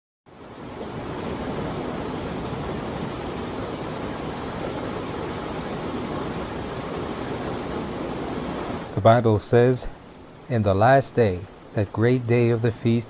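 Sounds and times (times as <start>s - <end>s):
mountain stream flowing: 0.3s - 13.0s.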